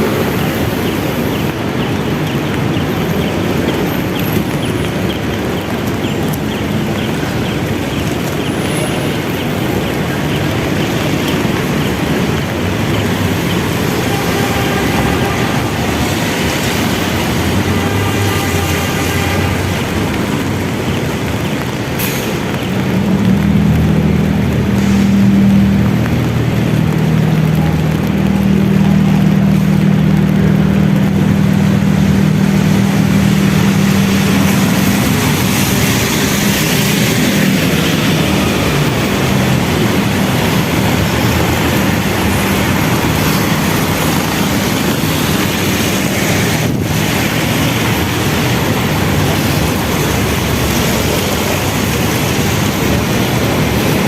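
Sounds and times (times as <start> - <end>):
vehicle noise: 0.0 - 54.0.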